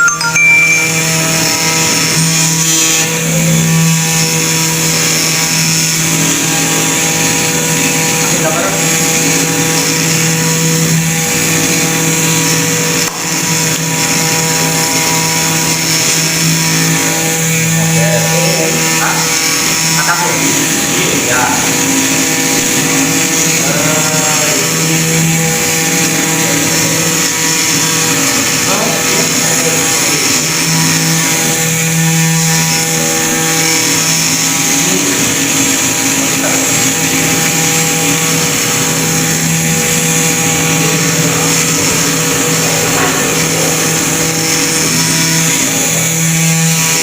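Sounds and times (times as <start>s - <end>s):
milling machine humming: 0.0s - 47.0s.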